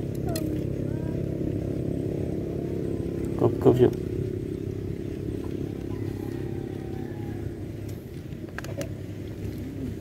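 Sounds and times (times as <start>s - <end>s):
small engine droning: 0.0s - 10.0s.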